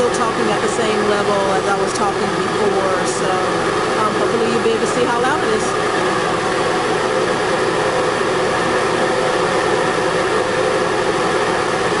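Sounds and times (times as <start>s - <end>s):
ventilation fan running: 0.0s - 12.0s.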